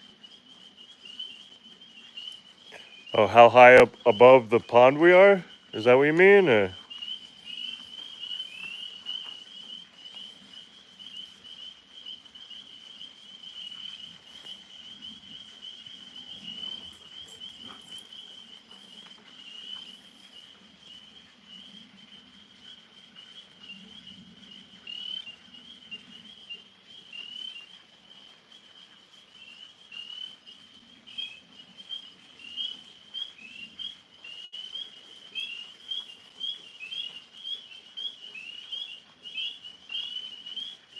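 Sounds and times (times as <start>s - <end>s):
tree frogs chorusing: 0.0s - 40.9s.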